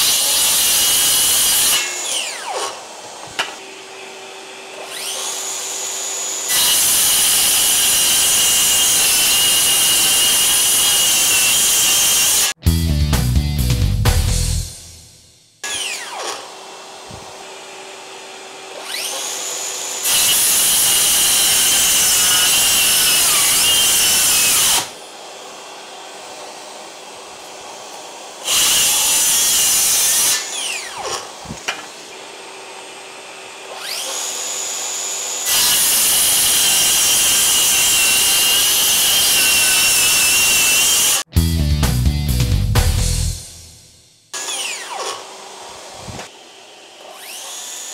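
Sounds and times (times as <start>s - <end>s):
circular saw cutting board: 0.0s - 12.6s, 13.6s - 41.6s, 42.4s - 47.9s
circular saw whining: 0.0s - 12.6s, 14.3s - 41.3s, 43.1s - 47.9s.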